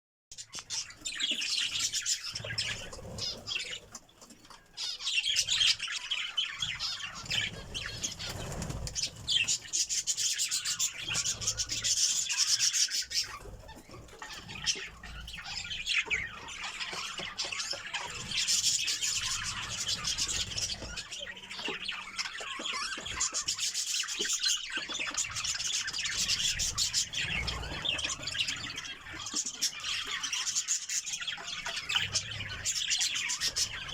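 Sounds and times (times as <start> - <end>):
budgerigars chattering: 0.4 - 33.9
wings fluttering: 0.6 - 33.9.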